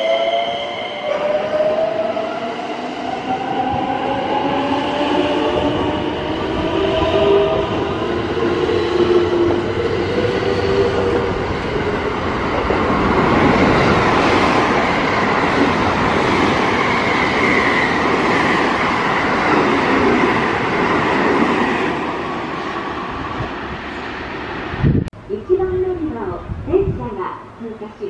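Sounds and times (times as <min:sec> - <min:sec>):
train wheels rumbling on rail: 0:00.5 - 0:25.1.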